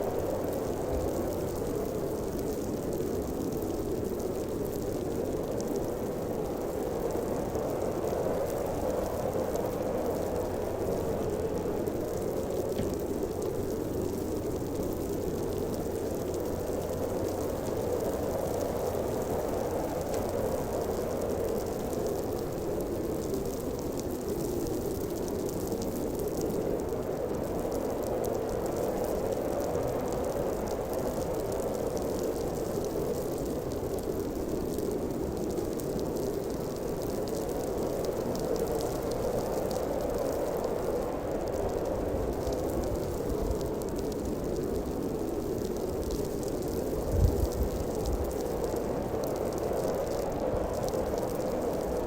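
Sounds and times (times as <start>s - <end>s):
faint fine crackle: 0.0s - 52.0s.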